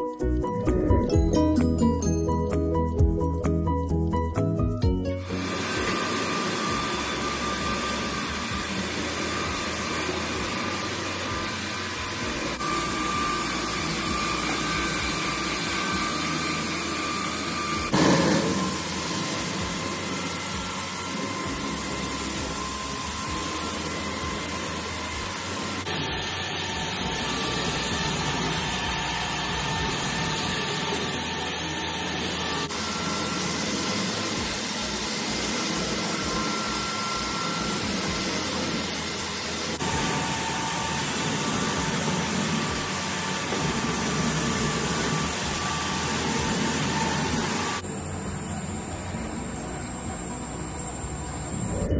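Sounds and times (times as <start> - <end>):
carpet washing machine running: 4.8 - 51.9.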